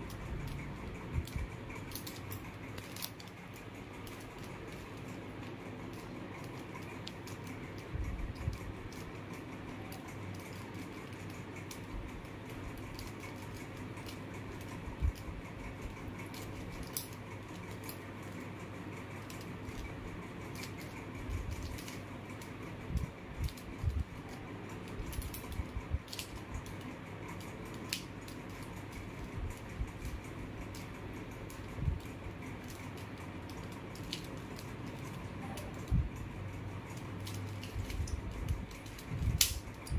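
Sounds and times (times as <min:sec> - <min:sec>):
puzzle cube layers clicking: 0:00.0 - 0:39.9
room hum: 0:00.0 - 0:39.9.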